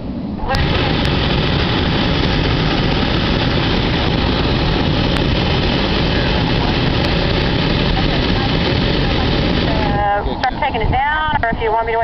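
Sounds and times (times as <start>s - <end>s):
propane burner blasting: 0.1s - 12.0s.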